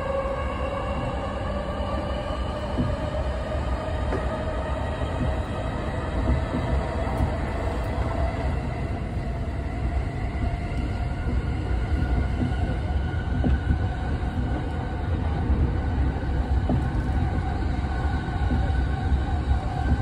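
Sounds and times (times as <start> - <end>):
low rumble of wheels on rail: 0.0 - 20.0.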